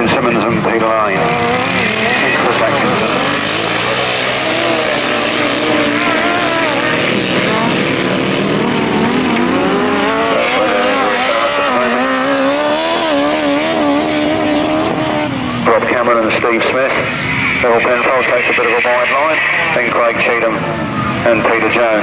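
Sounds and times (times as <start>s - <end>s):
racing sidecar engines running hard: 0.0s - 22.0s.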